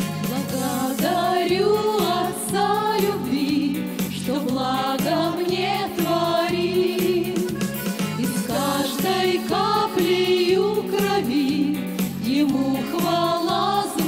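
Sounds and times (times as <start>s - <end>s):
instrumental accompaniment with bass: 0.0s - 14.0s
women singing in harmony: 0.2s - 7.5s, 8.2s - 14.0s.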